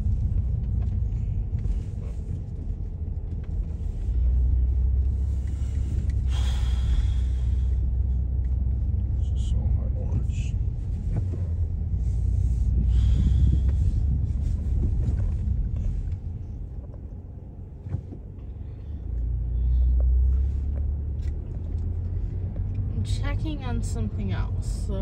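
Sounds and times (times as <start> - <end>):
car driving rumble: 0.0 - 25.0.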